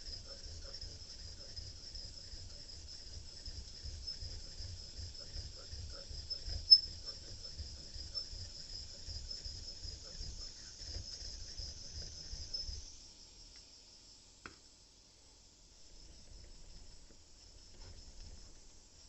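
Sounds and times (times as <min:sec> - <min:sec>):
insects trilling: 0:00.0 - 0:14.4, 0:15.7 - 0:19.0.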